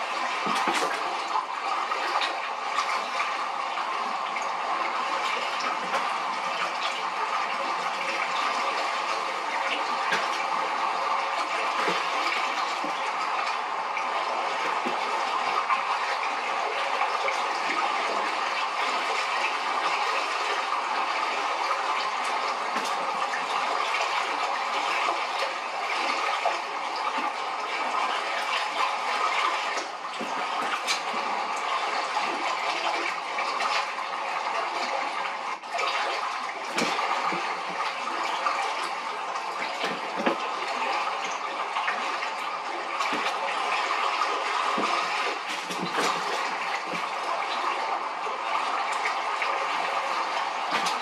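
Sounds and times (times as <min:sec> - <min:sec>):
rushing bubbling water: 0:00.0 - 0:51.0.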